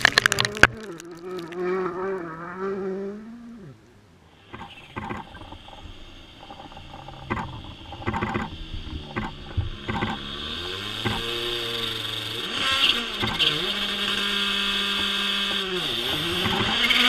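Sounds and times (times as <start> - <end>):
engine cracks and pops: 0.0 - 2.7, 4.4 - 17.0
distant rally car whine: 1.5 - 17.0.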